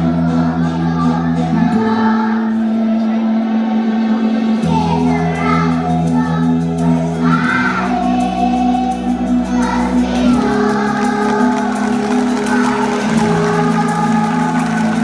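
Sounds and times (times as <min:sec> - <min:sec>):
song with sung melody: 0:00.0 - 0:15.0.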